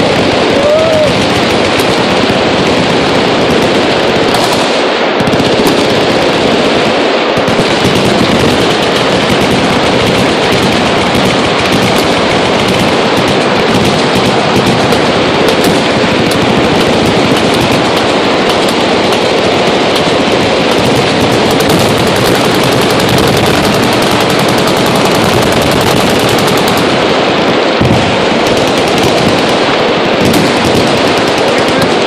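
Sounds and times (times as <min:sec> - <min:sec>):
machine guns firing: 0:00.0 - 0:32.0.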